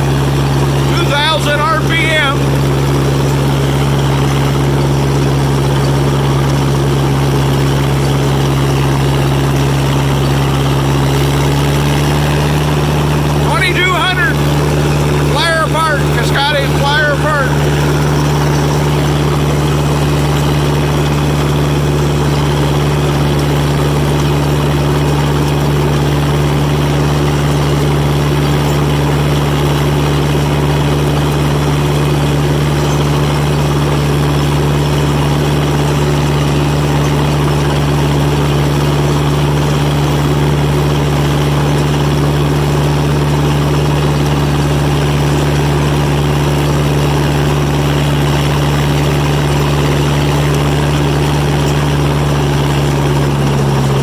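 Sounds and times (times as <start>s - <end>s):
crawler engine droning: 0.0s - 54.0s.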